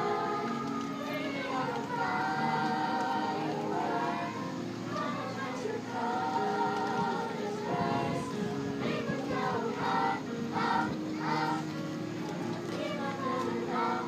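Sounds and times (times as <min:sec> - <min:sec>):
musical accompaniment: 0:00.0 - 0:14.0
voices singing long wavering notes: 0:00.0 - 0:14.0.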